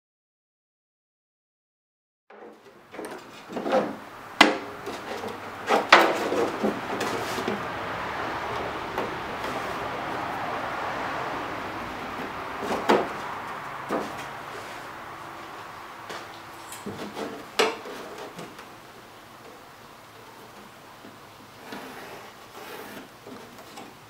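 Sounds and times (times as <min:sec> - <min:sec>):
wooden strips scraping: 0:02.3 - 0:24.0.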